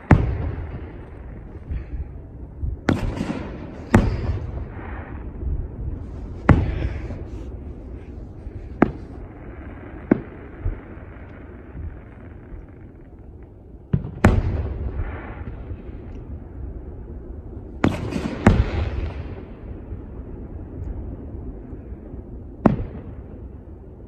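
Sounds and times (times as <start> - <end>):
fireworks bursting with echo: 0.0 - 23.8.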